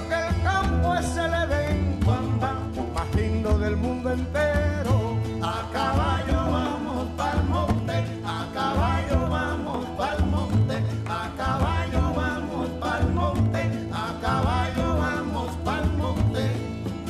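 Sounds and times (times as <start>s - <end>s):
latin dance music: 0.0s - 17.0s.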